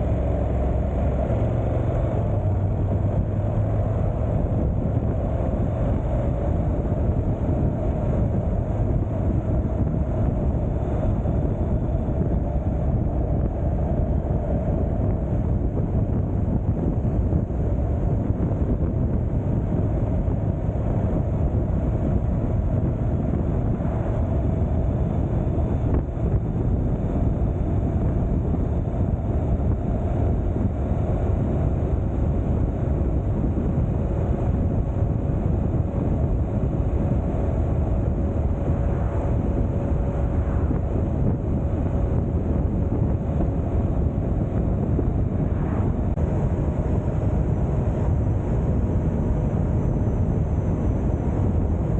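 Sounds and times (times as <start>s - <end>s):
motorcycle engine humming: 0.0s - 51.9s
wind rushing over microphone: 0.0s - 51.9s.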